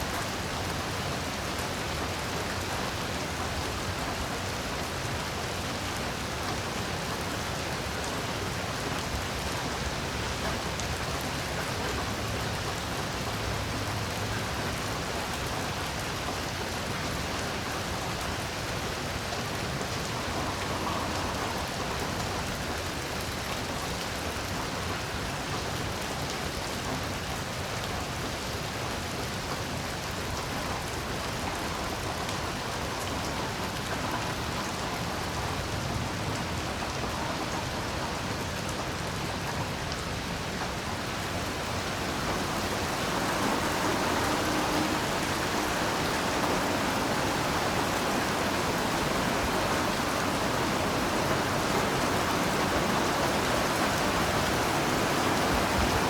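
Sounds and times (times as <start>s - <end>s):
heavy rain hissing: 0.0s - 23.2s, 30.2s - 56.0s.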